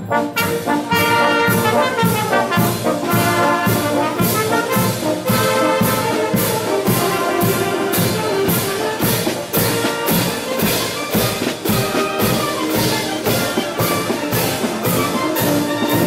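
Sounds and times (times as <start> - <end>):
marching wind band playing: 0.0 - 16.0
percussion struck on the beat: 0.1 - 16.0.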